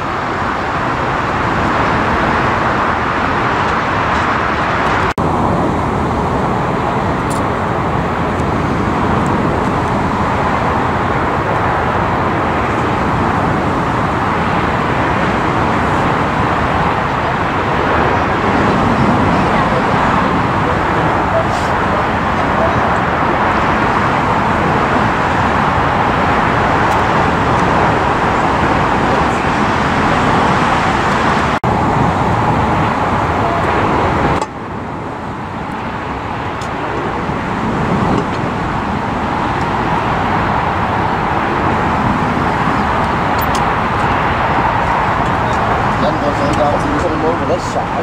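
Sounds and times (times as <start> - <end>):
jet engines rushing: 0.0 - 48.0.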